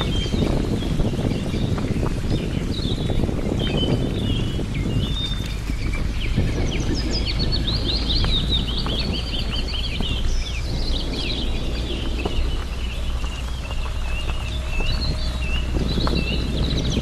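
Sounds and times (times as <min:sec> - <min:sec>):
small songbirds chirping: 0:00.0 - 0:17.0
steady low rumble: 0:00.0 - 0:17.0.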